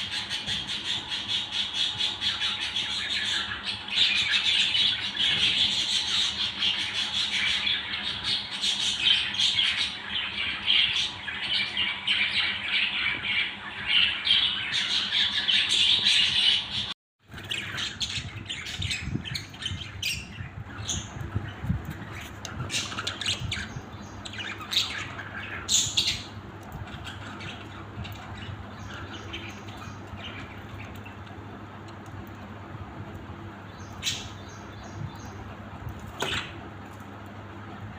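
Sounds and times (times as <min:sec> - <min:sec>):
budgerigars chattering and squawking: 0:00.0 - 0:31.4, 0:33.7 - 0:36.6
steady low hum: 0:00.0 - 0:37.9.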